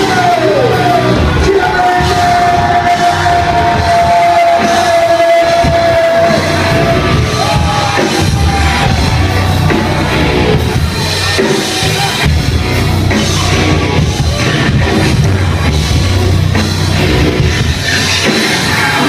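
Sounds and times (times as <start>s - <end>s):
loud live concert music: 0.0s - 19.0s.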